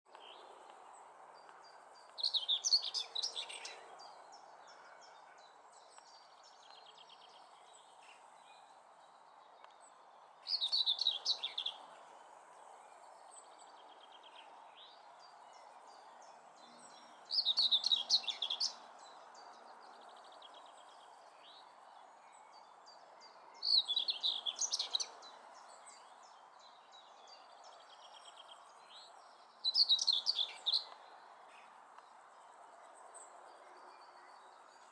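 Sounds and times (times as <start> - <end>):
low background noise: 0.1 - 34.9.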